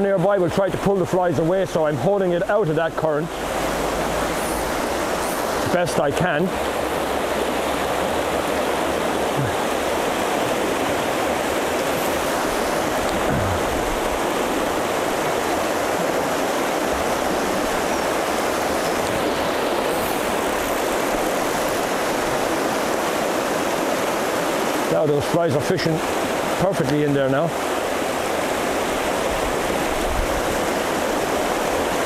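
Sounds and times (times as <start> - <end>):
river rushing over rapids: 0.0 - 32.0.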